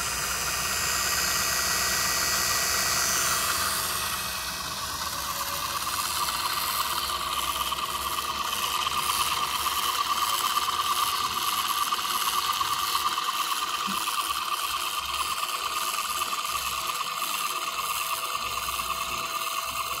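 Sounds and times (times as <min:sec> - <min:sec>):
film projector clatter: 0:00.0 - 0:20.0.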